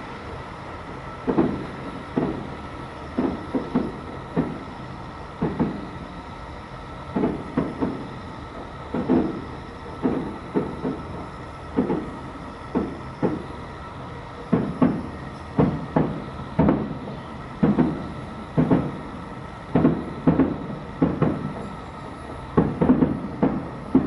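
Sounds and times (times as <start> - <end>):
distant fireworks booming: 1.0 - 6.2, 6.9 - 24.0.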